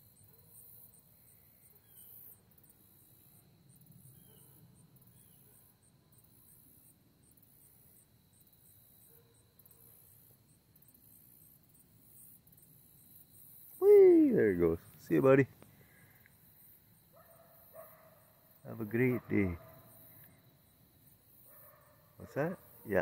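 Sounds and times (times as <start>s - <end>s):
katydids and crickets chirping: 0.0s - 23.0s.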